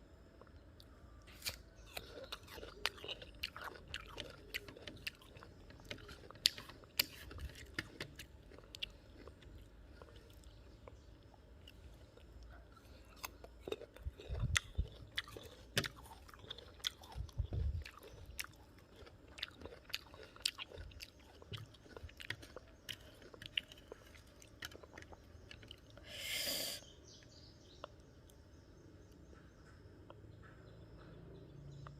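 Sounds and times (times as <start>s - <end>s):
chewing crisp fruit: 0.4s - 28.5s.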